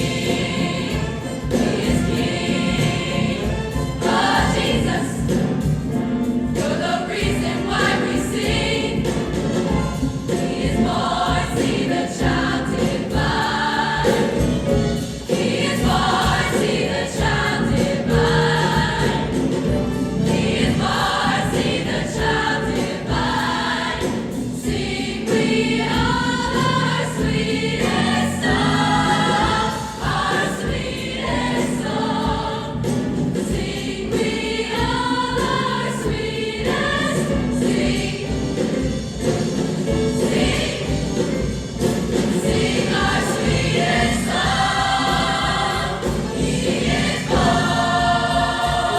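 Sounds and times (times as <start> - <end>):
choir singing with accompaniment: 0.0 - 48.9.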